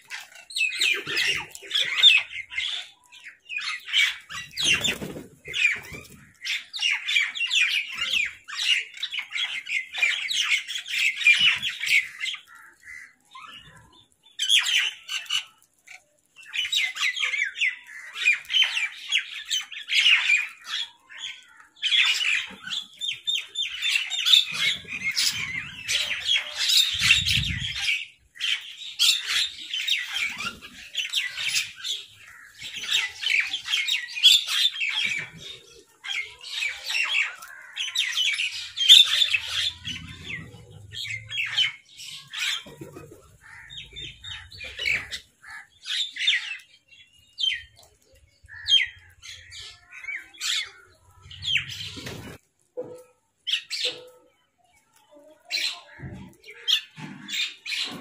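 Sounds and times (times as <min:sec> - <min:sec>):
birds squawking and chattering: 0:00.0 - 0:58.0.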